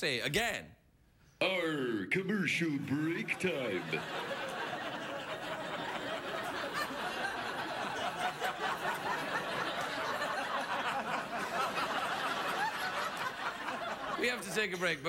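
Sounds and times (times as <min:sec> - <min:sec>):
studio audience laughing: 0:02.9 - 0:15.0.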